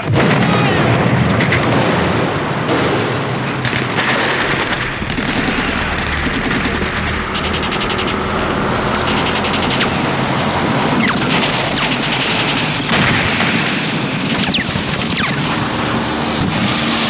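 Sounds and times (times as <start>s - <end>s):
anti-aircraft gun fire: 0.0s - 17.0s
rapid automatic gunfire: 0.0s - 17.0s.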